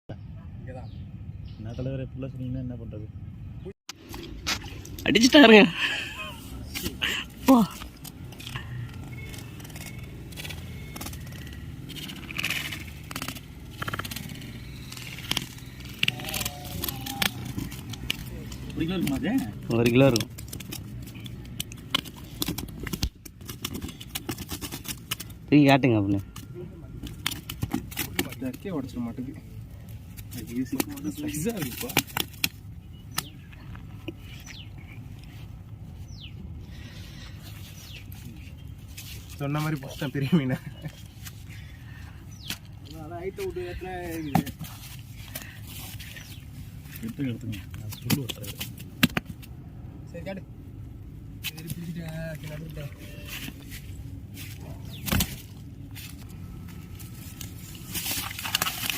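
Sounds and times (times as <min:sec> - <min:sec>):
fishing gear scraping and rattling: 0:03.9 - 0:25.6, 0:26.2 - 0:36.2, 0:36.8 - 0:49.6, 0:51.4 - 0:58.9.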